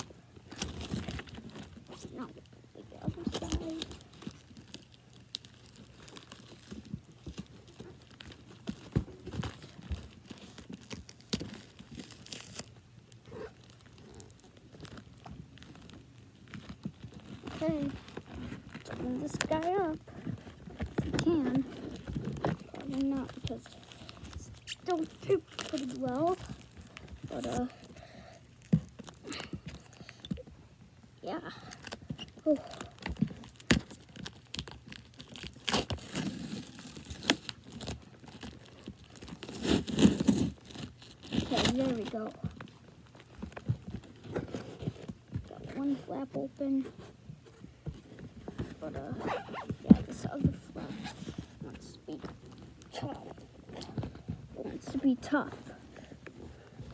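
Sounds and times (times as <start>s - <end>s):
plastic wrap crinkling and tearing: 0.0s - 30.5s, 31.2s - 47.1s, 47.9s - 56.9s.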